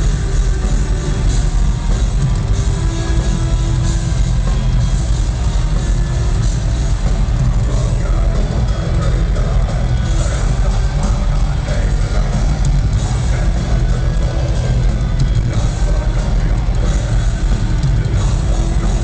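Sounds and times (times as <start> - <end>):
loud electronic rock music: 0.0 - 19.0.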